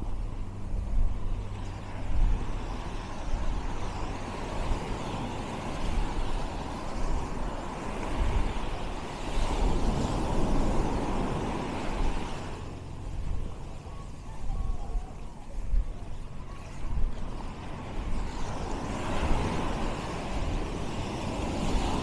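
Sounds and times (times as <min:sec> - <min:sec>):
small waves on sand beach: 0:00.0 - 0:22.0
wind rumbling on microphone: 0:00.0 - 0:22.0.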